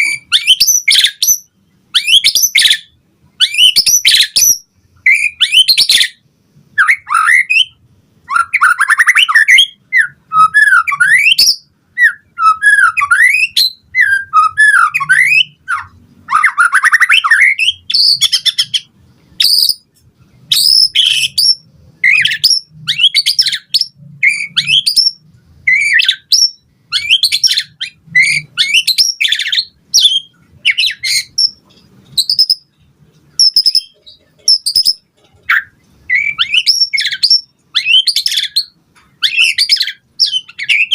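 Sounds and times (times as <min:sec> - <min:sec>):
songbird singing whistles and trills: 0:00.0 - 0:06.2, 0:06.8 - 0:32.8, 0:33.4 - 0:40.9.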